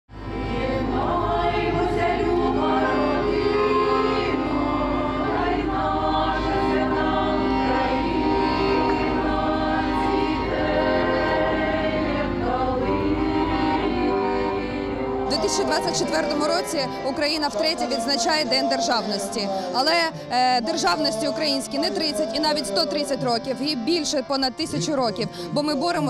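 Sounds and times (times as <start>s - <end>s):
choir singing in harmony: 0.1s - 26.0s.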